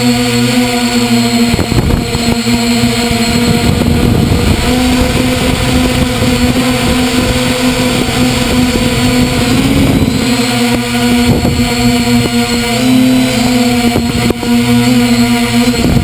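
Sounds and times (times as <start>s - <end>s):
drone propellers humming: 0.0s - 16.0s
wind rushing over microphone: 0.0s - 16.0s.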